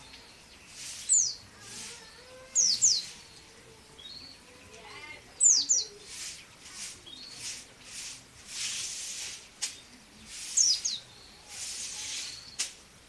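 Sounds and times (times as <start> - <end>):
bird chirping: 0.0 - 8.1, 9.6 - 12.8.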